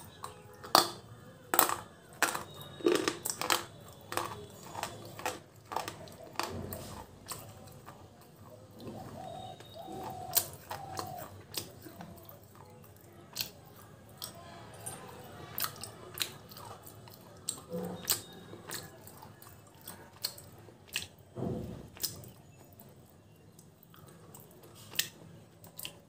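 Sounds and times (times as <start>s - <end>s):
crunchy chewing of slate: 1.6s - 26.0s.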